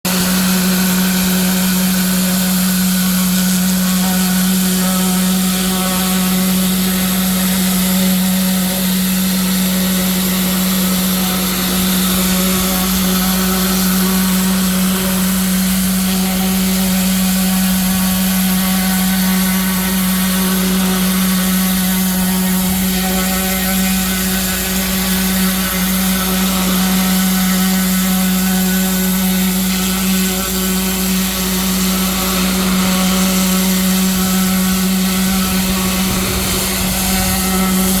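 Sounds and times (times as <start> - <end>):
pressure washer humming: 0.0 - 38.0
spray hissing on concrete wall: 0.1 - 38.0.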